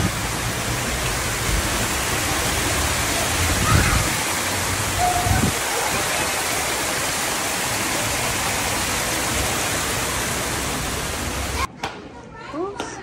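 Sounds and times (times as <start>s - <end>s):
waterfall rushing splash: 0.0s - 11.7s.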